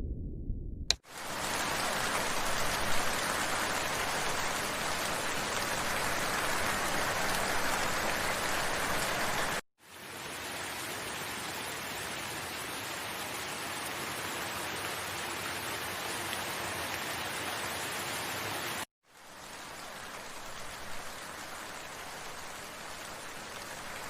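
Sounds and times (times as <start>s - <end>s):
heavy rain hiss: 1.1s - 24.0s.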